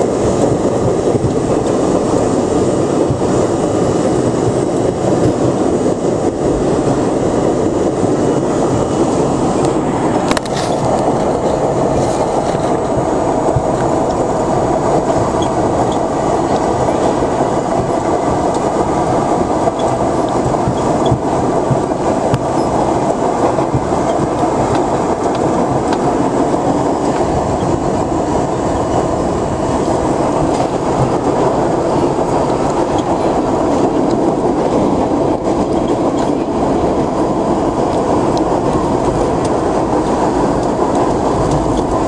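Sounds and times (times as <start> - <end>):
subway train wheels on rails: 0.0 - 42.0.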